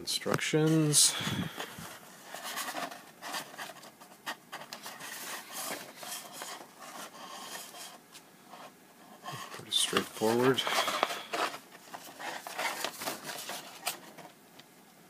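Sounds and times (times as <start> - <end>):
paper booklet pages rustling: 0.3 - 14.4.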